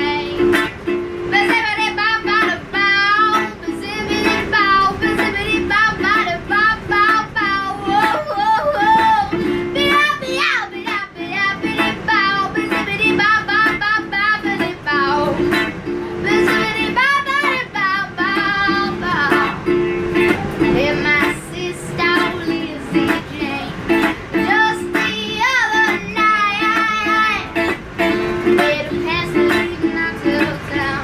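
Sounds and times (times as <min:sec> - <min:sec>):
girl singing: 0:00.0 - 0:31.0
strummed ukulele: 0:00.0 - 0:31.0.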